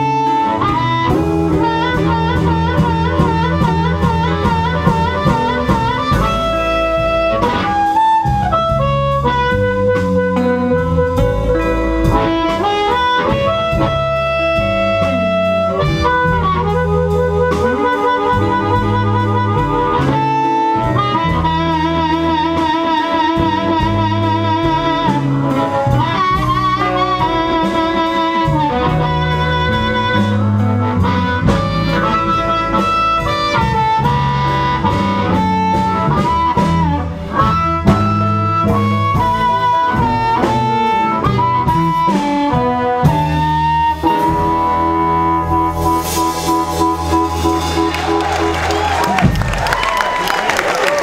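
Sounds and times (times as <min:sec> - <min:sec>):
amplified blues harmonica: 0:00.0 - 0:51.0
bass line: 0:00.0 - 0:51.0.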